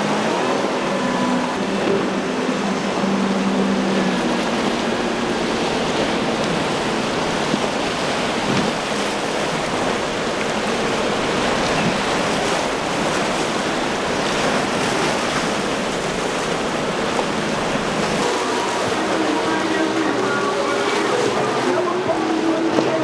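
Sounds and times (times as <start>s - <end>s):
surf and breaking waves: 0.0s - 23.0s.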